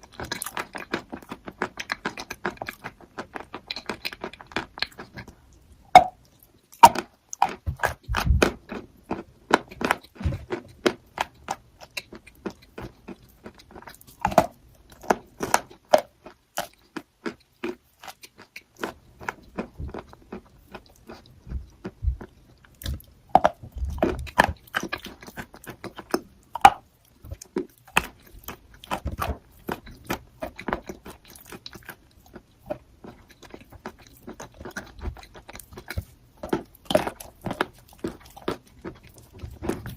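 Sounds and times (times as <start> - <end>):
person chewing crunchy chalk: 0.0 - 39.9.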